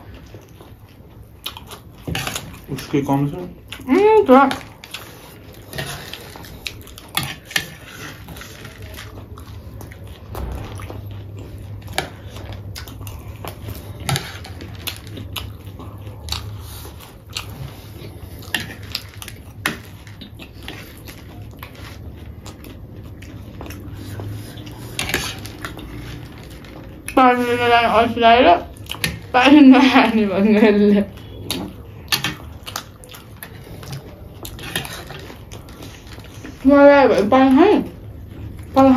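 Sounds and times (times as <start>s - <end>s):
low steady hum: 0.0s - 38.9s
people chewing crunchy food: 0.0s - 38.9s.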